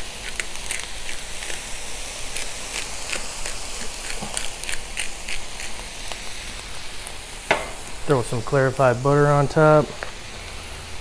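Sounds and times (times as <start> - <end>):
vegetables sizzling on a griddle: 0.0 - 11.0.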